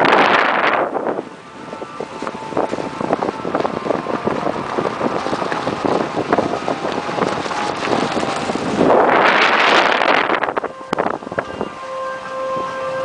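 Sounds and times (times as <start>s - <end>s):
vehicle road noise: 0.0s - 13.0s
wind on microphone: 0.0s - 13.0s.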